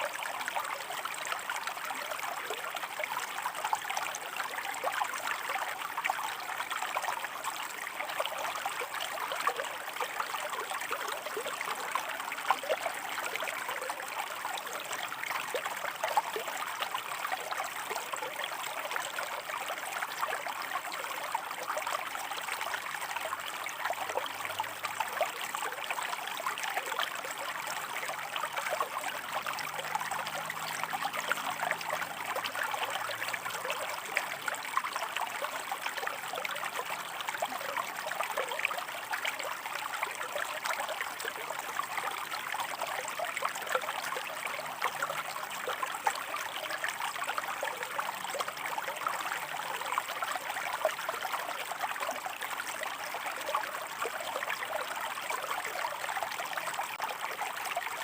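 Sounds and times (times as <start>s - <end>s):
stream water splashing over rocks: 0.0s - 58.0s.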